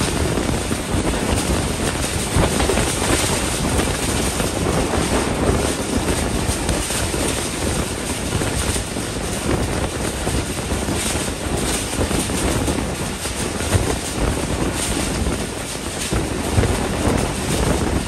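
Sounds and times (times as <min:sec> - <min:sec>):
train coaches rumbling on rails: 0:00.0 - 0:18.0
wind rushing on microphone: 0:00.0 - 0:18.0.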